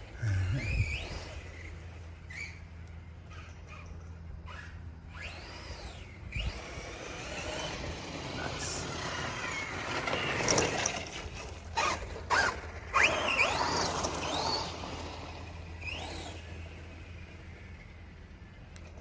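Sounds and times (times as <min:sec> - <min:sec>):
electric motor whining: 0:00.0 - 0:18.2.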